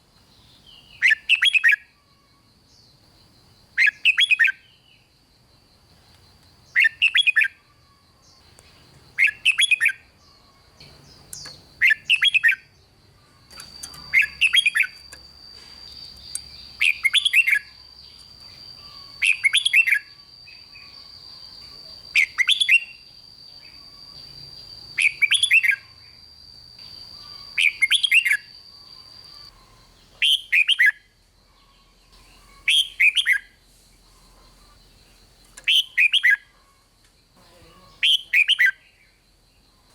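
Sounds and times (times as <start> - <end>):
bird singing warbled phrases: 0.3 - 2.0, 3.8 - 5.1, 6.0 - 7.7, 8.3 - 33.6, 35.6 - 36.5, 37.4 - 39.2.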